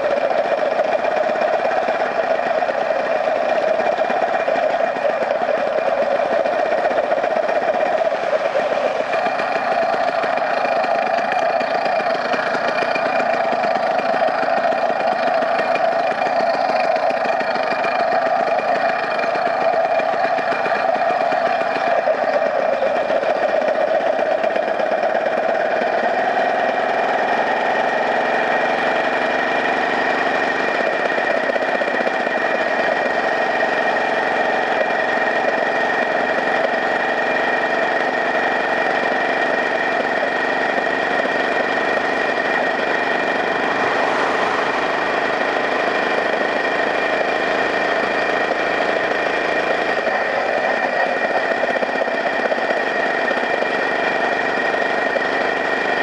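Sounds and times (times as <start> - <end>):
steady high whine: 0.0 - 56.0
vehicle engine running: 0.0 - 56.0.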